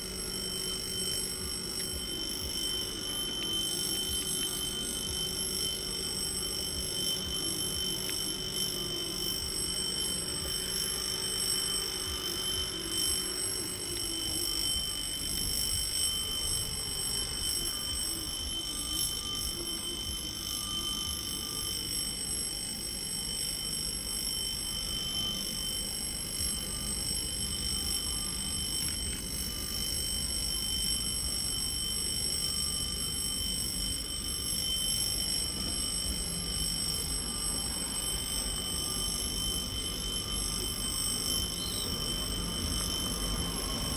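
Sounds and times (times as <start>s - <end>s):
electric warning bell ringing: 0.0s - 43.9s.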